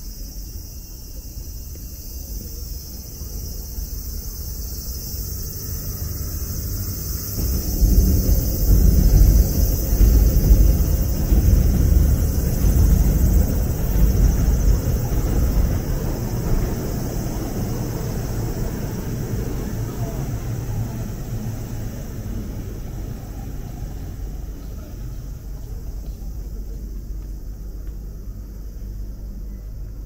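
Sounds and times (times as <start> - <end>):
passing vehicle rumble: 4.4 - 29.2.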